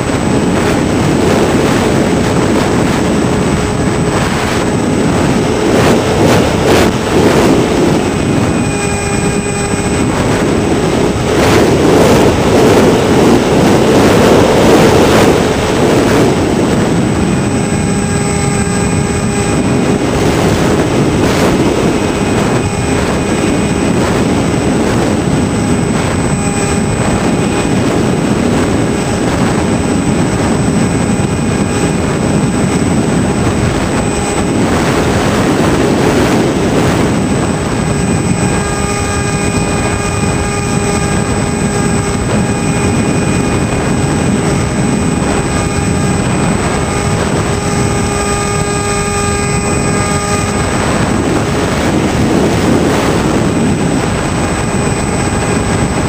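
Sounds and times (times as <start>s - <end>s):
electric motor whine: 0.0s - 56.0s
wind noise: 0.0s - 56.0s.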